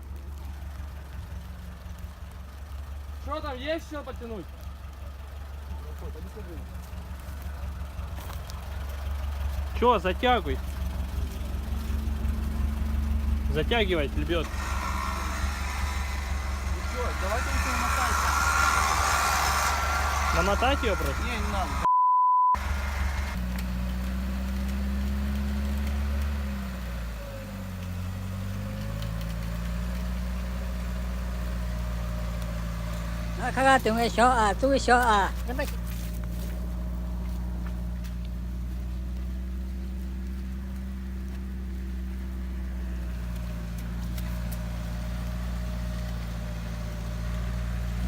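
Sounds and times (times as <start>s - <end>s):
engine idling: 0.0s - 21.9s, 22.6s - 48.0s.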